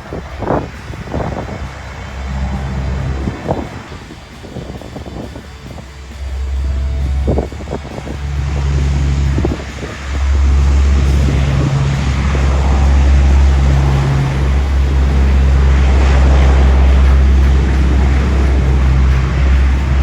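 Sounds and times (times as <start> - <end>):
jet engine hiss: 0.0 - 20.0
wind rumbling on microphone: 0.0 - 20.0.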